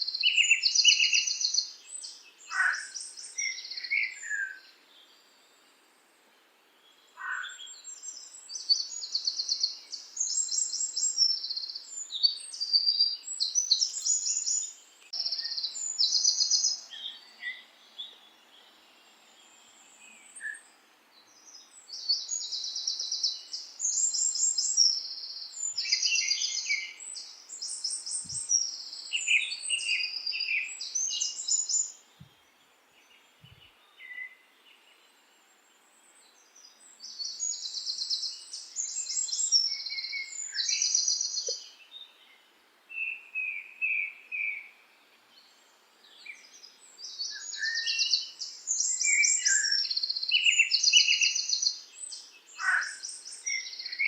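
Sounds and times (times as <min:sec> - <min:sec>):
songbirds singing trilled phrases: 0:00.0 - 0:05.8, 0:06.8 - 0:54.0
faint steady hiss: 0:00.0 - 0:54.0.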